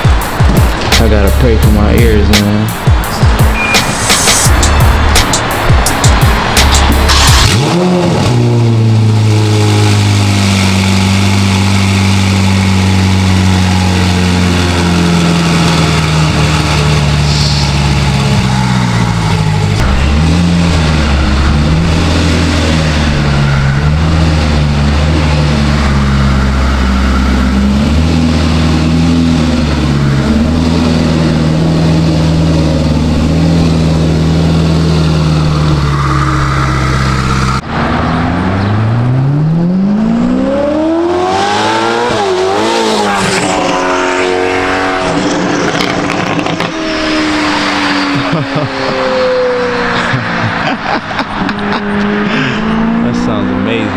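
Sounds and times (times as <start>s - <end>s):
loud car engine drone: 0.0s - 53.9s.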